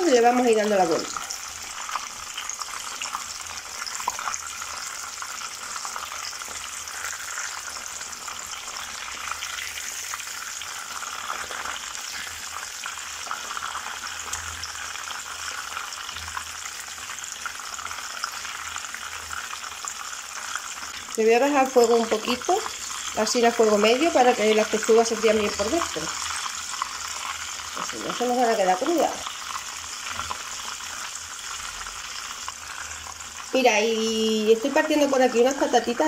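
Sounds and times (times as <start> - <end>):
chicken sizzling in oil: 0.0 - 36.0
tongs turning food in pan: 0.0 - 36.0.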